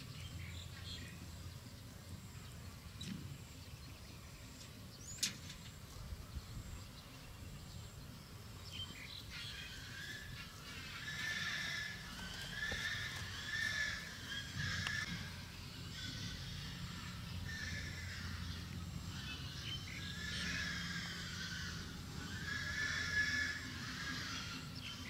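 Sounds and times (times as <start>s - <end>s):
low wind-like rumble: 0.0s - 23.6s.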